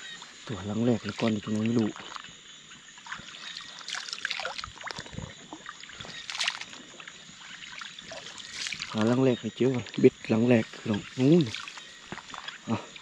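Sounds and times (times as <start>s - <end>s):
water sloshing with footsteps: 0.0s - 13.0s.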